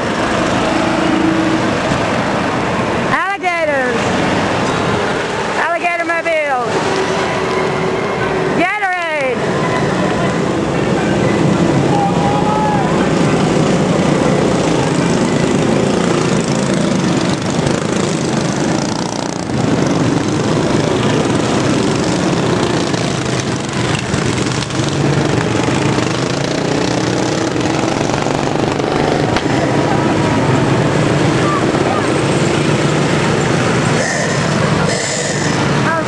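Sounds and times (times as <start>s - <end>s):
small engines driving past: 6.5s - 36.0s.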